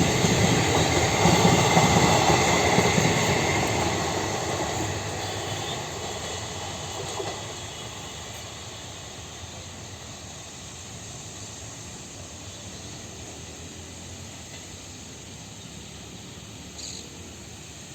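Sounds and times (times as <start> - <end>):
steady hiss: 0.0 - 17.9
train rail noise: 0.0 - 17.9.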